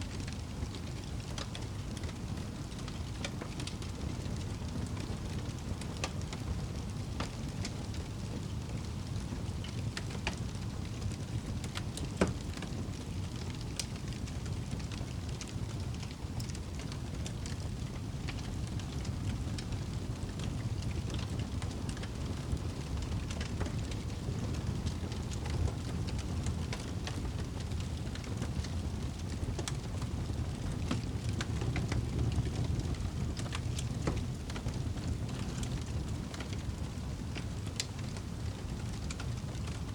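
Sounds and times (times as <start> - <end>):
campfire crackling and popping: 0.2 - 39.8.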